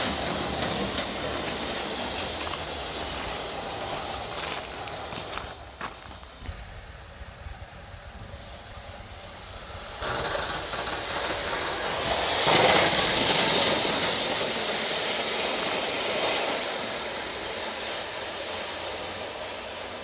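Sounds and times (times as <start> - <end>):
model steam locomotive passing: 0.0 - 20.0.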